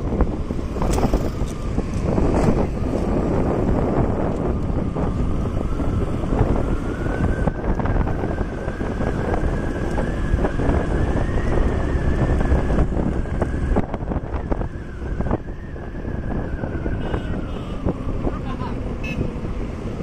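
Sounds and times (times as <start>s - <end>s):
motorcycle engine rumble: 0.0s - 20.0s
road noise: 0.0s - 20.0s
wind buffeting microphone: 0.0s - 20.0s.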